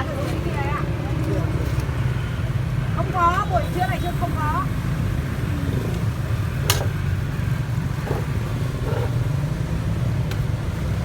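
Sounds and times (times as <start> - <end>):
passing traffic rumble: 0.0 - 11.0.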